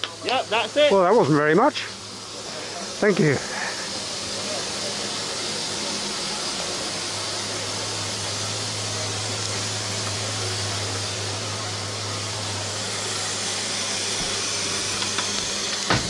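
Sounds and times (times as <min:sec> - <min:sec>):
steam hissing from locomotive: 0:00.0 - 0:16.0.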